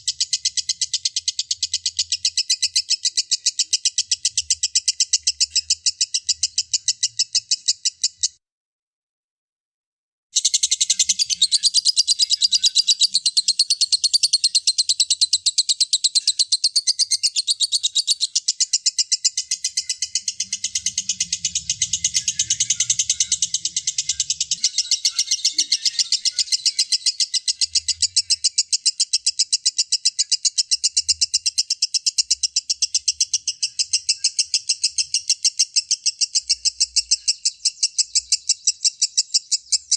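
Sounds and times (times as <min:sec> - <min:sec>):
lovebird chattering trill: 0:00.0 - 0:08.4, 0:10.4 - 0:39.9.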